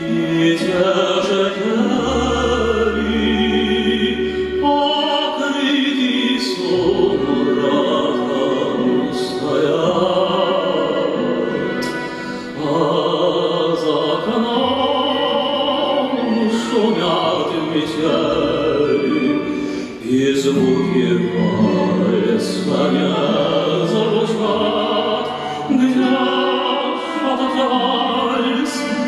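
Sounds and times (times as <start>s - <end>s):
small folk ensemble playing waltz: 0.0s - 29.0s.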